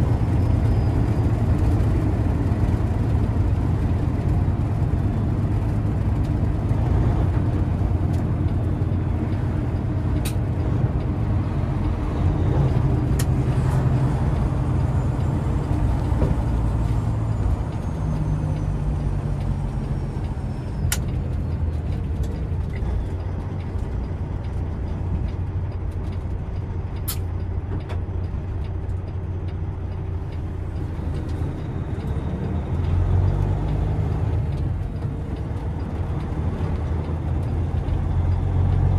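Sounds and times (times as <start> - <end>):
road noise: 0.0 - 38.9
truck diesel engine running: 0.0 - 38.9.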